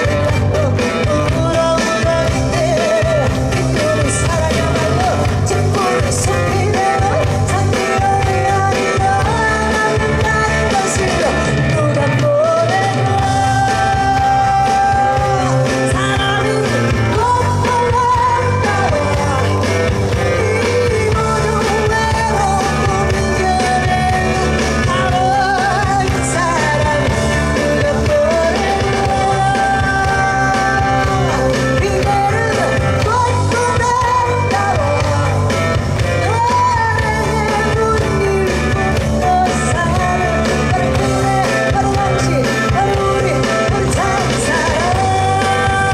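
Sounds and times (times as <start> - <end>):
pop band playing: 0.0 - 45.9
woman singing: 0.0 - 45.9.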